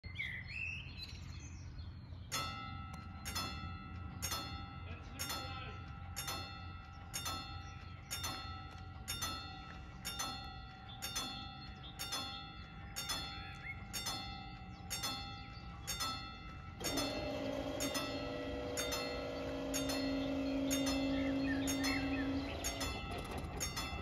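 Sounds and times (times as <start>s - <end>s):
level crossing warning bells: 1.7s - 24.0s.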